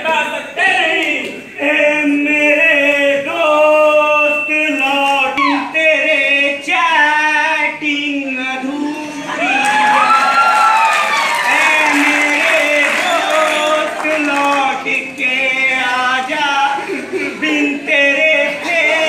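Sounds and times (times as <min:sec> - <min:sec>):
several voices singing: 0:00.6 - 0:19.0.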